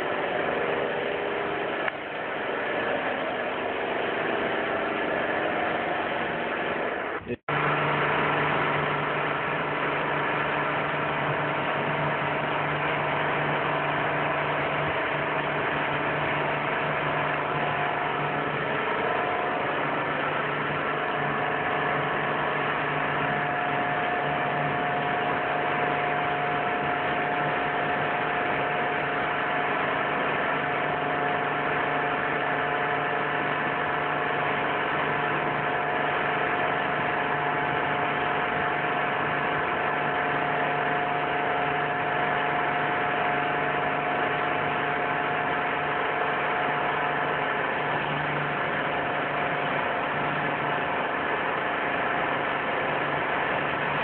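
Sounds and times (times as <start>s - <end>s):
pressure washer motor and pump hum: 0.0s - 54.0s.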